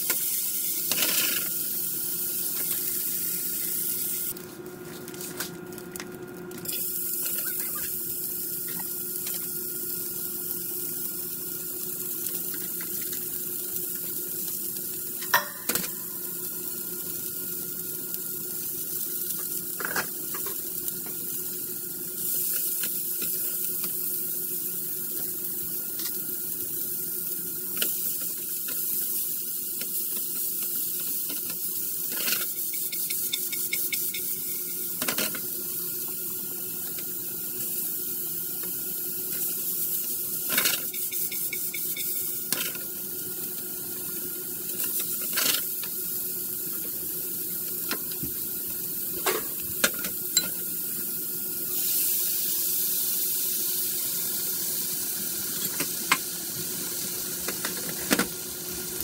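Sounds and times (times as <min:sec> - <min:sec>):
steady cooking hiss: 0:00.0 - 0:59.0.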